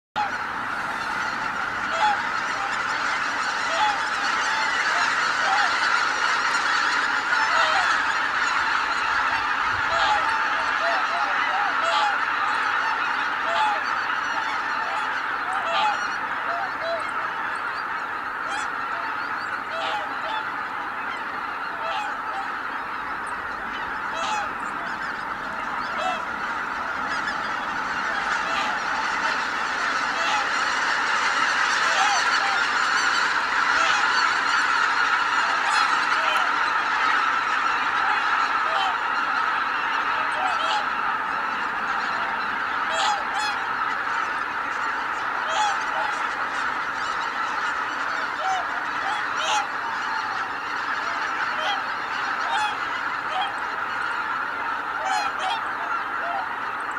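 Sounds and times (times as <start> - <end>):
geese honking: 0.2 - 56.9.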